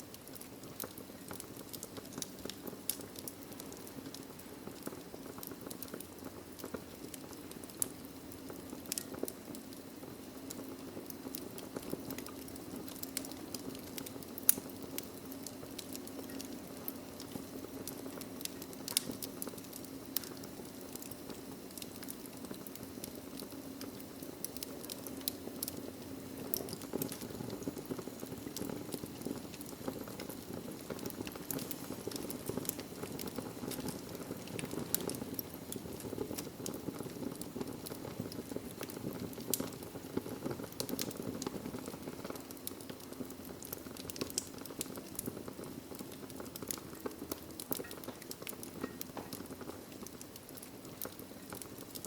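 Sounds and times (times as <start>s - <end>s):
fire crackles and pops: 0.0s - 52.0s
log fire rush of flames: 0.0s - 52.0s.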